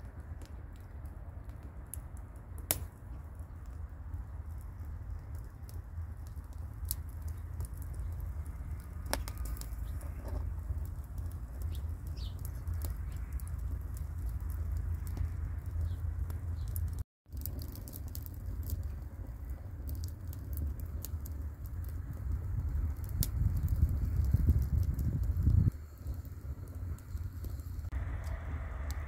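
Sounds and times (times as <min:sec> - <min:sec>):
steady low rumble: 0:00.0 - 0:29.0
wood fire crackling: 0:00.0 - 0:29.0.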